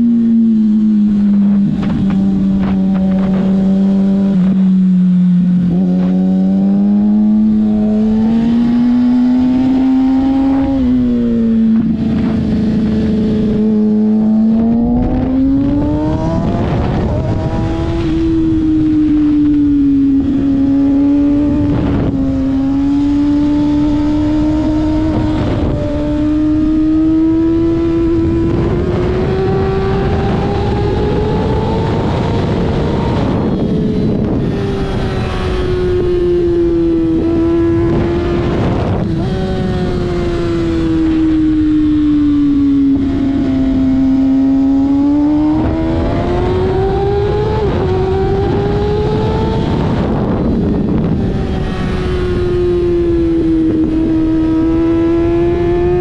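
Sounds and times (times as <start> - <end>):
motorcycle engine running hard: 0.0 - 56.0
wind rush on microphone: 0.0 - 56.0.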